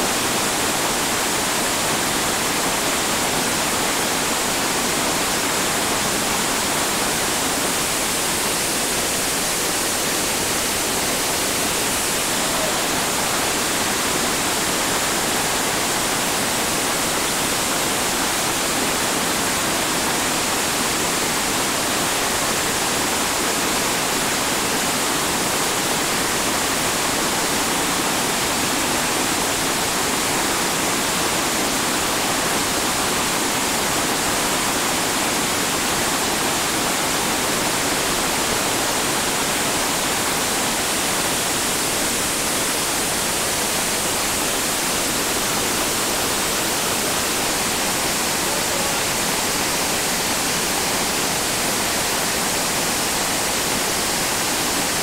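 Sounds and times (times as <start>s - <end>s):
whitewater roaring: 0.0s - 55.0s.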